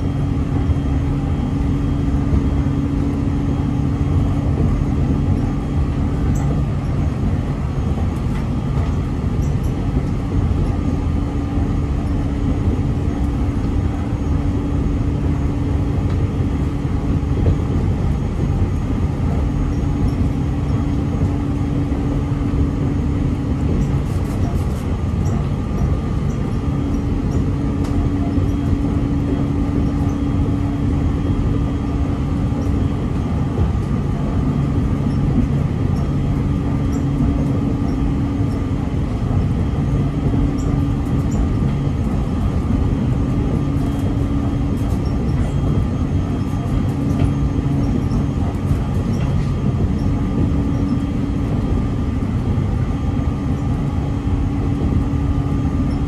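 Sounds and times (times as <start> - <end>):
low hum: 0.0 - 56.0
train wheels rumbling: 0.0 - 56.0.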